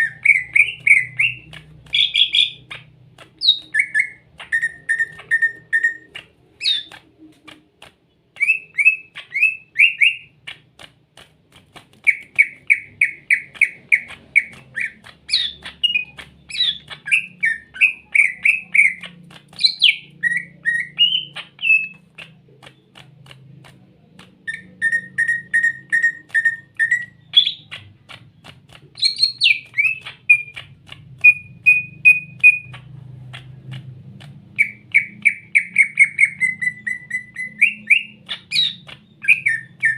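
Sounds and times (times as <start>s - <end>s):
bird singing: 0.0s - 7.0s, 8.3s - 10.6s, 12.0s - 23.0s, 24.4s - 28.0s, 28.9s - 39.9s.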